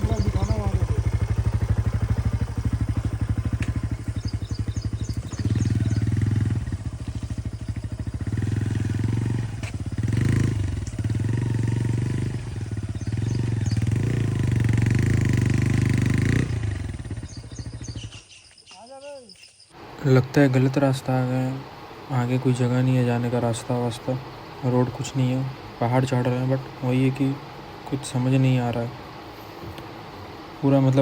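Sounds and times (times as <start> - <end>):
motorcycle engine revving: 0.0 - 18.4, 19.7 - 31.0.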